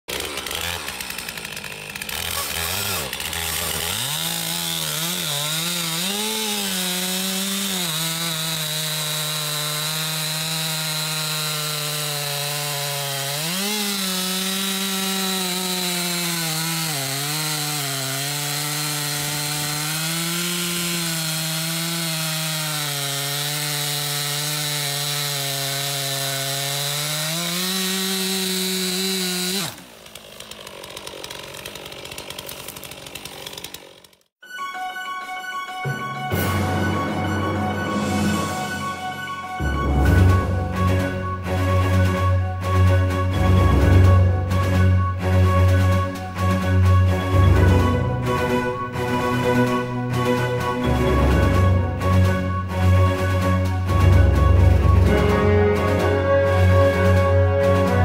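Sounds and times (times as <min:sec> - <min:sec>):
chainsaw cutting log: 0:00.1 - 0:34.4, 0:38.3 - 0:58.0.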